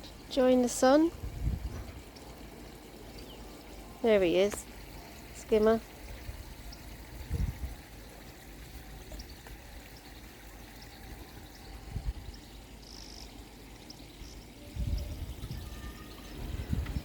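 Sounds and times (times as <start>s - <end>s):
water pouring into pond: 0.0s - 17.0s.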